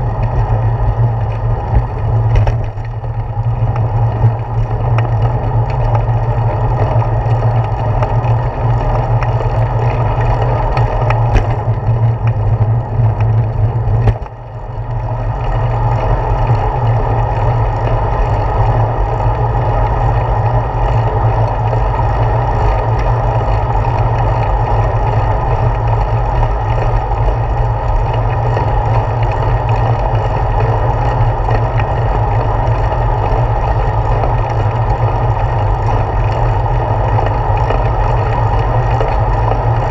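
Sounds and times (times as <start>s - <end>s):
bicycle road vibration: 0.0s - 39.9s
wind rumble: 0.0s - 39.9s.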